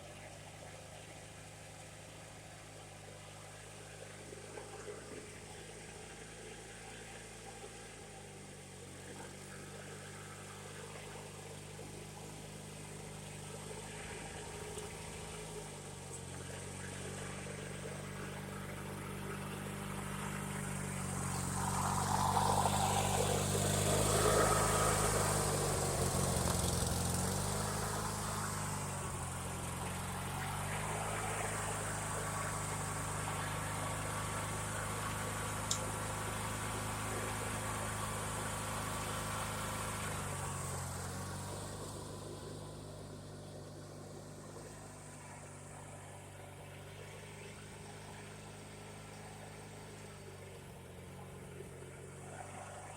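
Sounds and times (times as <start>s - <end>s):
riding lawn mower engine: 0.0s - 52.9s.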